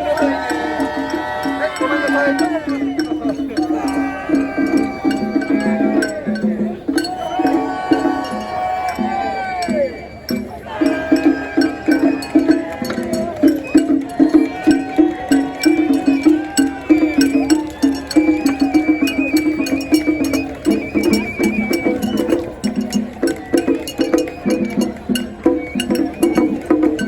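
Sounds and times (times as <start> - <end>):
high melody line: 0.0 - 27.0
rhythmic percussion: 0.0 - 27.0.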